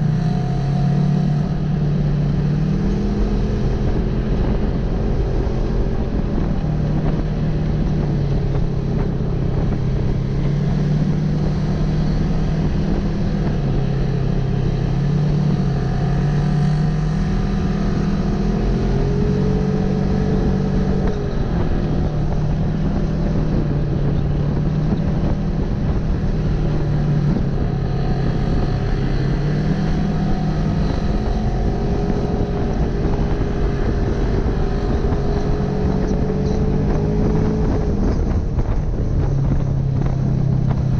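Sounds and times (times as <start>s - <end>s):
vehicle engine revving while driving: 0.0s - 40.9s.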